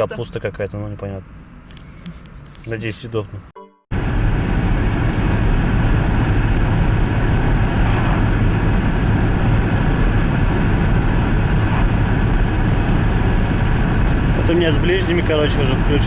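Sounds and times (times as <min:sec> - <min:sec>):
car cabin engine and road noise: 0:00.0 - 0:16.0.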